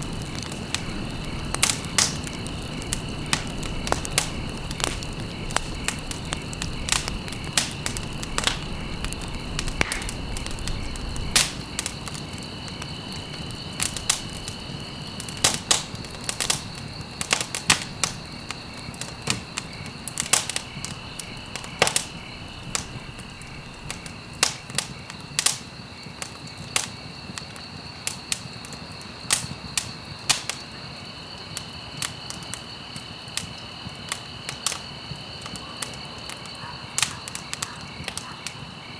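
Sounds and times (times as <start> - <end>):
wood fire crackling and popping: 0.0 - 38.8.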